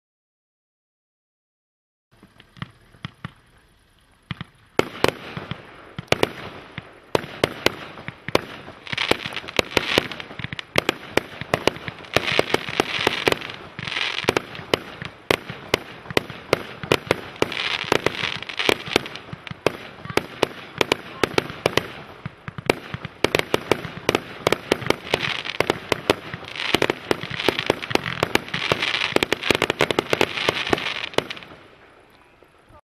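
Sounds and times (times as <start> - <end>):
fireworks hiss: 2.2 - 32.4
fireworks launch and burst reports: 4.3 - 31.6.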